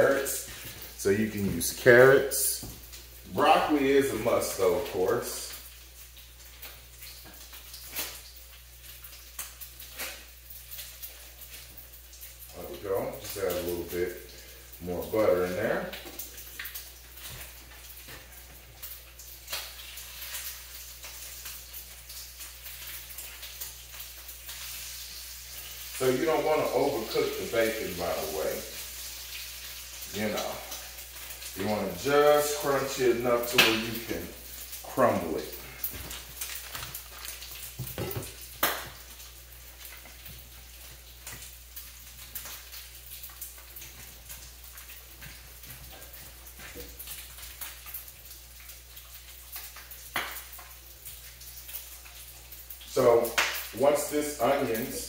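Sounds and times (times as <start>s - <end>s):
bacon sizzling in a pan: 0.0s - 55.0s.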